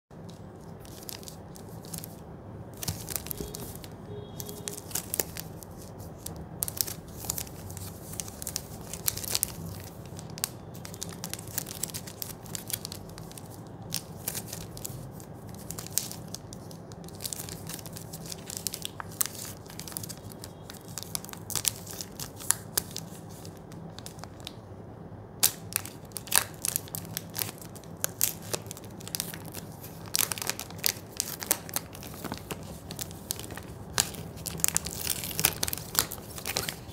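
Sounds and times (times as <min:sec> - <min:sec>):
plastic wrapper crinkling: 0:00.2 - 0:24.7, 0:25.4 - 0:36.9.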